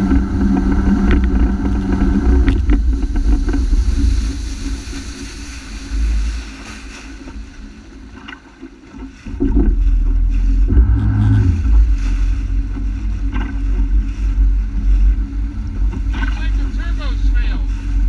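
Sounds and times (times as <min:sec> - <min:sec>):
jet ski engine: 0:00.0 - 0:18.0
water noise: 0:00.0 - 0:18.0
wind buffeting microphone: 0:00.0 - 0:18.0.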